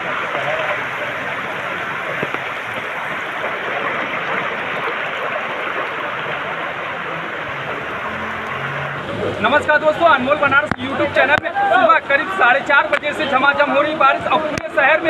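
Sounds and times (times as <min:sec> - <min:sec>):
heavy rain splashing into water: 0:00.0 - 0:15.0.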